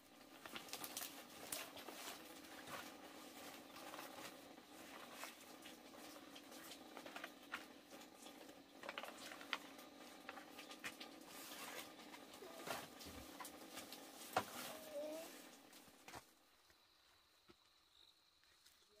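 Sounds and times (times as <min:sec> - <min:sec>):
leaves rustling and crackling: 0:00.0 - 0:16.0.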